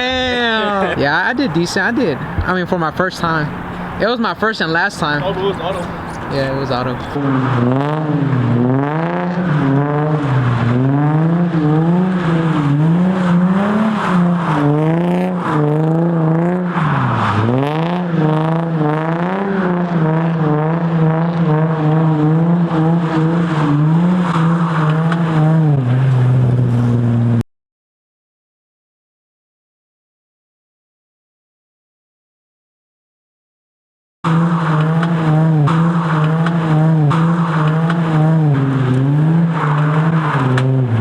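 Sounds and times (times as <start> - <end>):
car engine revving: 0.0 - 27.4, 34.2 - 41.0.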